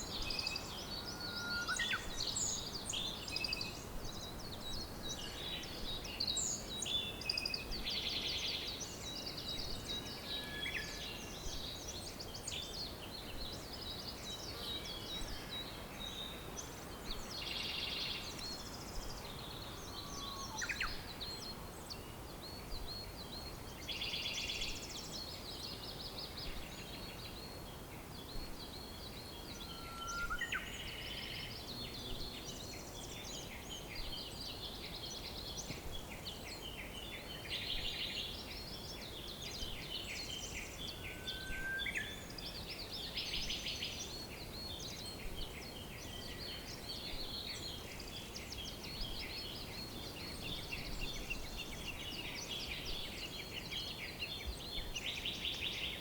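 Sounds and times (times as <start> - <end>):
songbirds chirping and trilling: 0.0 - 56.0
steady low background noise: 0.0 - 56.0.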